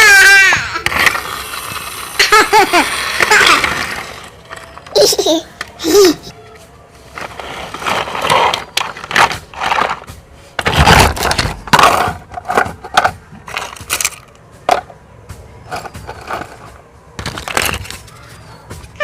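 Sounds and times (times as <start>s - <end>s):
toys clattering and scraping: 0.0s - 5.8s, 7.1s - 15.0s, 15.6s - 19.0s.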